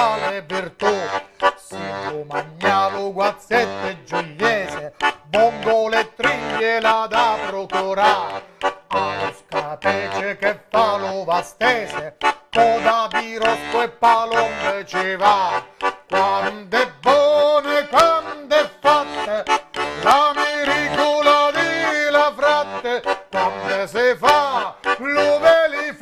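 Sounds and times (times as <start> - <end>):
button accordion folk tune: 0.0 - 26.0
man singing: 0.0 - 26.0.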